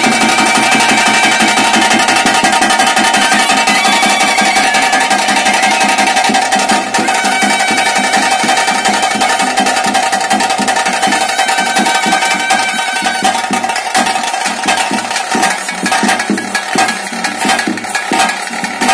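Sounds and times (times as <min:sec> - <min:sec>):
high held tone: 0:00.0 - 0:15.8
fast steady drumming: 0:00.0 - 0:18.9.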